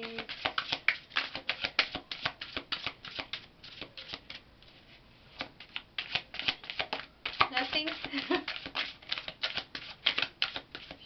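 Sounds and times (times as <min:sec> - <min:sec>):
cards being shuffled: 0:00.0 - 0:04.4, 0:05.4 - 0:11.0.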